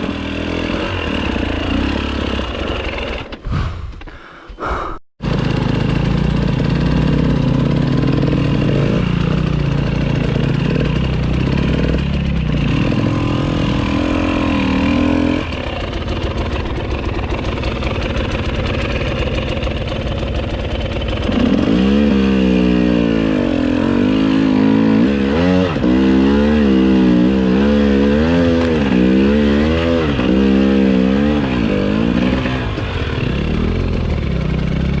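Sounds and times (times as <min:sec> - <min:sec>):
motorcycle engine running: 0:00.0 - 0:03.9, 0:05.2 - 0:35.0.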